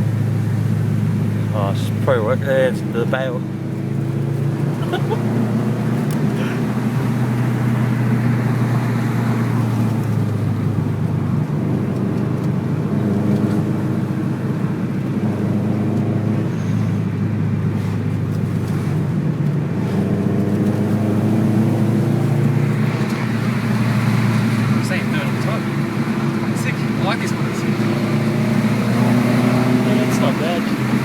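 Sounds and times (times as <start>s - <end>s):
car engine drone: 0.0s - 31.0s
road noise: 0.0s - 31.0s.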